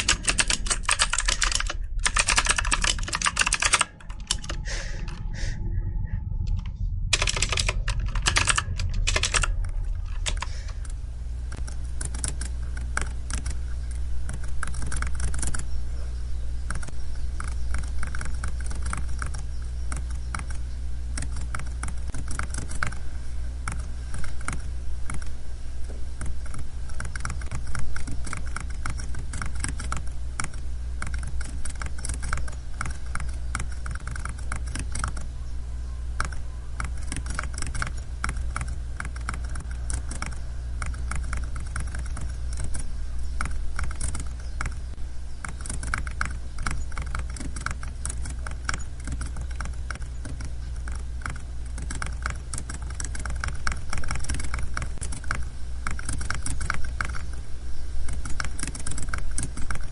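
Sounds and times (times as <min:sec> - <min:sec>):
keyboard typing clicks: 0:00.0 - 0:05.3, 0:06.5 - 0:15.7, 0:16.6 - 0:23.0, 0:23.6 - 0:25.3, 0:26.2 - 0:35.3, 0:36.2 - 0:57.3, 0:58.1 - 0:59.9
low hum: 0:00.0 - 0:59.9.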